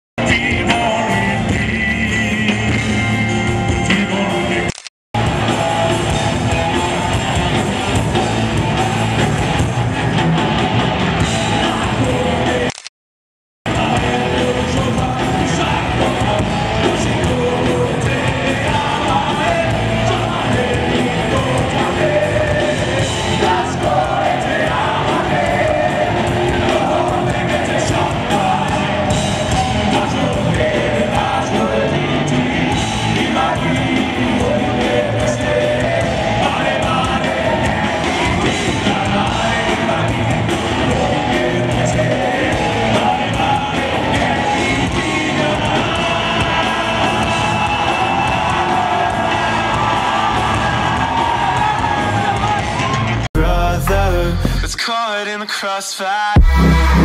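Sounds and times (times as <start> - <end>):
man singing: 0.2 - 6.2, 11.5 - 12.9, 13.7 - 49.7, 53.4 - 57.0
electric guitars: 0.2 - 12.7, 13.7 - 54.7
metal band playing: 5.2 - 12.7, 13.7 - 54.8, 56.4 - 57.0.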